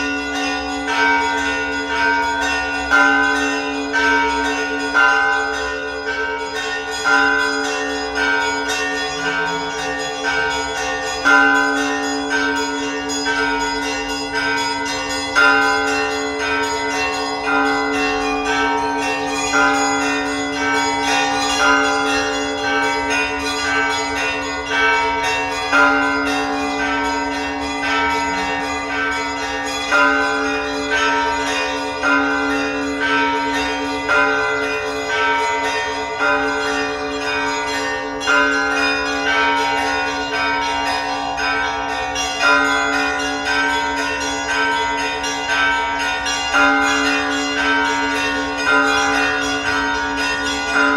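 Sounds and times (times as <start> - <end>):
small church bells ringing: 0.0 - 50.9.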